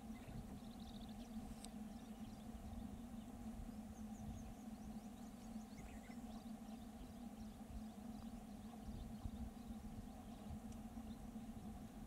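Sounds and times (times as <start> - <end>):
distant birds chirping: 0.0 - 12.0
low hum and rumble: 0.0 - 12.0.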